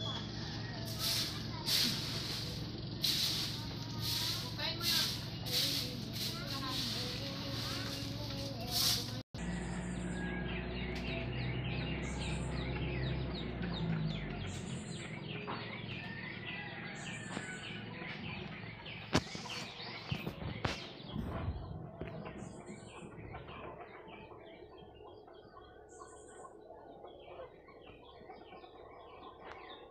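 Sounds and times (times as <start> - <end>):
birds chirping and calling: 0.0 - 29.9.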